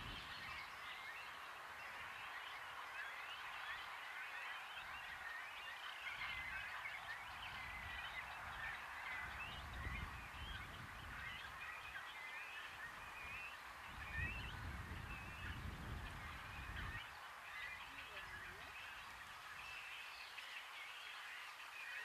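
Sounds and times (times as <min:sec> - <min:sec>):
birds chirping chorus: 0:00.0 - 0:22.0.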